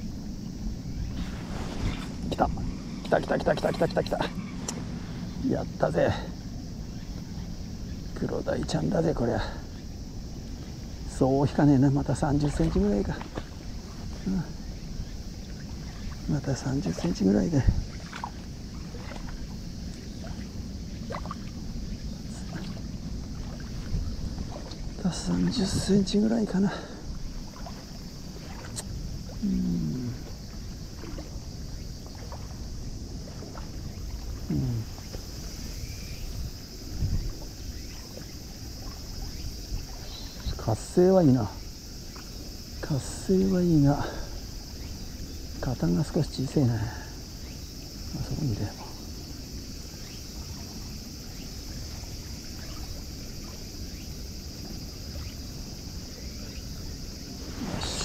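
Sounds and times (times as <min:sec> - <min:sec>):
wind rumble: 0:00.0 - 0:46.4, 0:47.2 - 0:58.0
high insect drone: 0:00.0 - 0:58.0
rippling water: 0:00.0 - 0:58.0
small waves lapping: 0:00.0 - 0:58.0.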